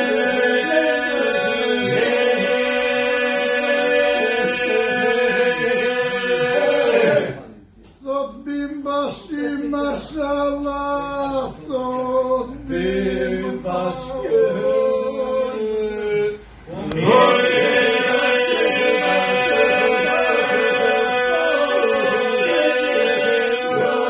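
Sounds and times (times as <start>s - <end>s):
men singing polyphonic folk song: 0.0s - 7.0s, 9.6s - 24.0s
held vocal drone: 0.0s - 7.4s, 12.0s - 24.0s.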